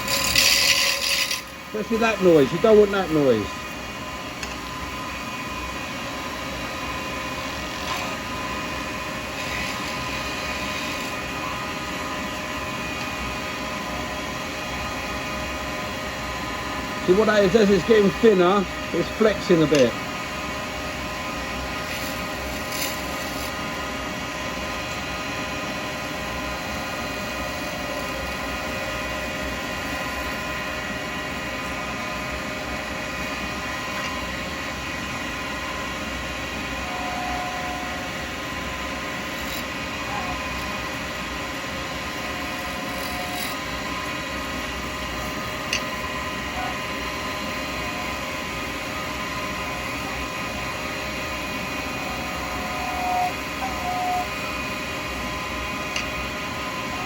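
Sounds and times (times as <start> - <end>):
lathe motor whine: 0.0 - 57.0.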